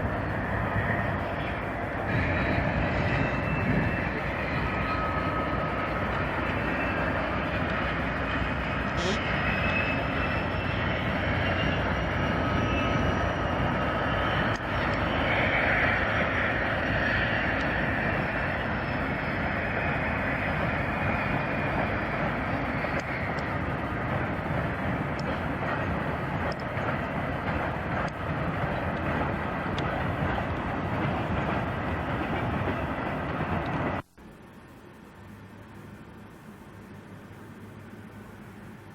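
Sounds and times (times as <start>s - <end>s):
faint high whine: 0.0s - 38.9s
train passing: 0.0s - 38.9s.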